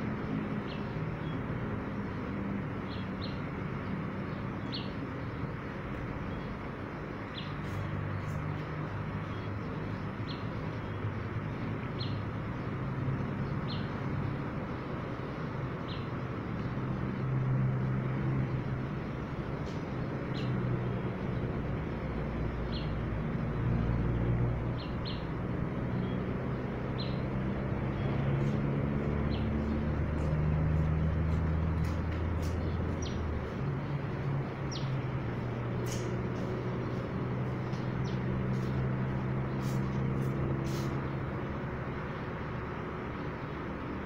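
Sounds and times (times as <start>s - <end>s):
engine humming: 0.0s - 44.0s.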